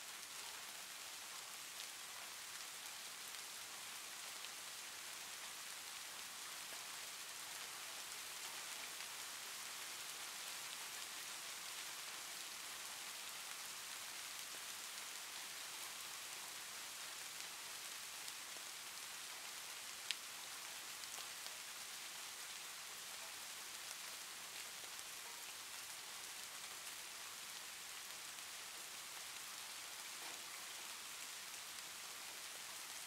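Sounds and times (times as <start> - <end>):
steady faint hiss: 0.0 - 33.0.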